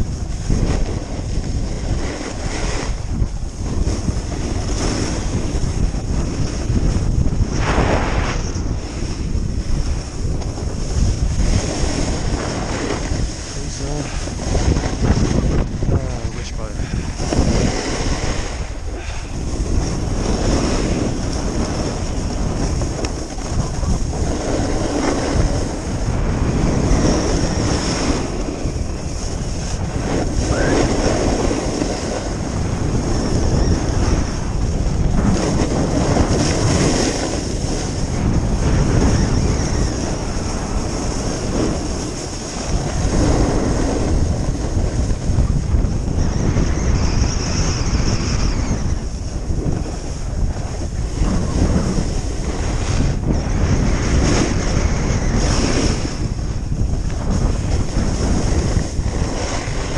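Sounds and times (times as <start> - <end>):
wind rushing over microphone: 0.0 - 59.9
skis scraping on snow: 0.1 - 48.5, 49.2 - 59.9.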